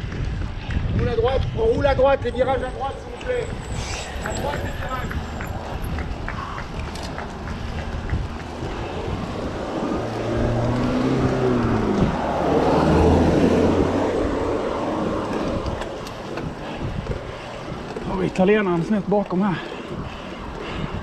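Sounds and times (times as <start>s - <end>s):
wind on microphone: 0.0s - 18.5s, 19.8s - 21.0s
car passing: 2.5s - 21.0s.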